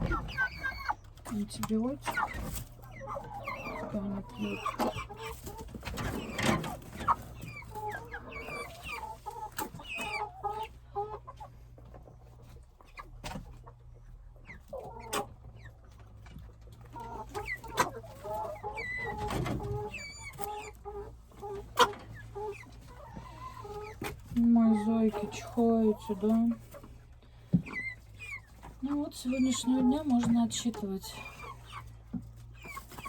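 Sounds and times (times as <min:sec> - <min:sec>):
chickens clucking and peeping: 0:00.0 - 0:33.0.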